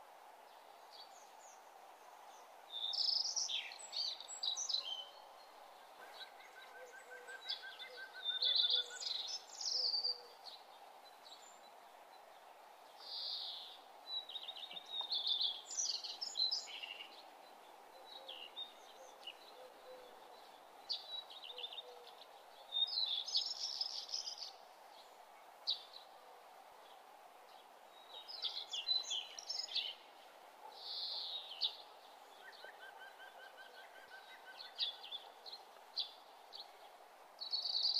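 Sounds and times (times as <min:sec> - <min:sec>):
birds chirping: 0:00.5 - 0:37.9.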